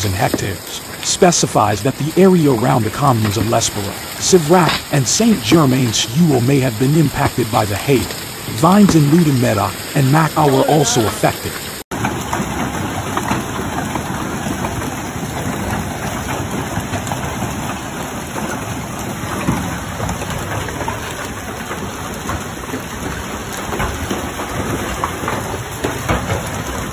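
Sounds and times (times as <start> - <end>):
hail and heavy rain pelting: 0.0 - 26.9
hailstones ticking on cars: 0.0 - 26.9.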